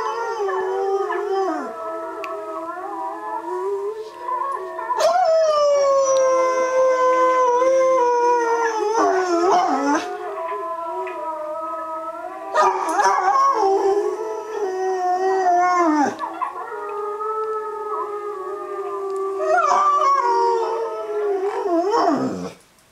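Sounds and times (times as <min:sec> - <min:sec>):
dog howling: 0:00.0 - 0:22.6
wolf howls from speakers: 0:00.0 - 0:22.6.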